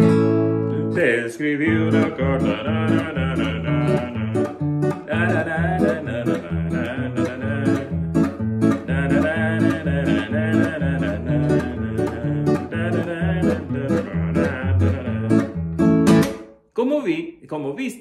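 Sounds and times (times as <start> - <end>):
acoustic guitar playing: 0.0 - 16.7
man singing: 0.7 - 15.8.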